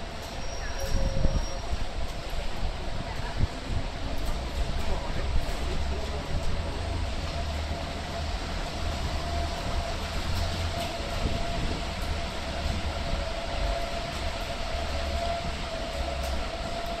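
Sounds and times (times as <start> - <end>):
tram rumbling with whine: 0.0 - 17.0.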